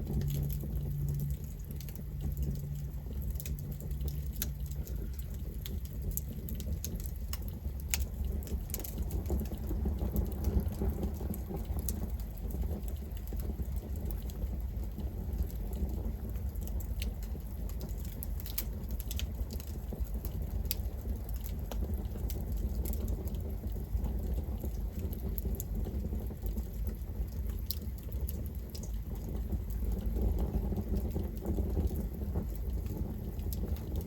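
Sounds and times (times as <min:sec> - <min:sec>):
burning wood crackles and pops: 0:00.0 - 0:34.0
campfire low rumble: 0:00.0 - 0:34.0.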